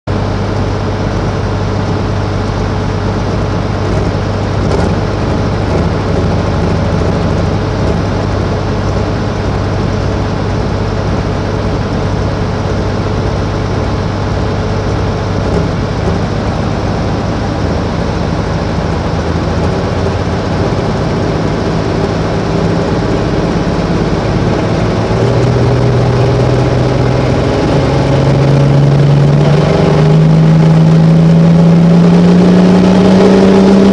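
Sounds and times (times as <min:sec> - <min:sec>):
vehicle engine revving: 0:00.3 - 0:33.9.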